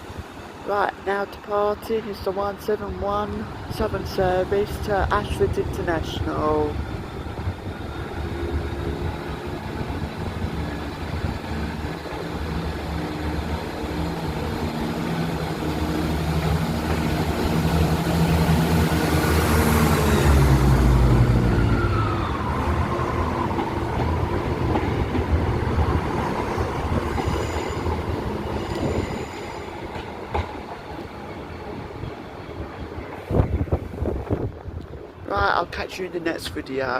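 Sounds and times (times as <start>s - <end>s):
diesel train engines revving: 0.0s - 35.2s
falling whine of train: 0.0s - 35.3s.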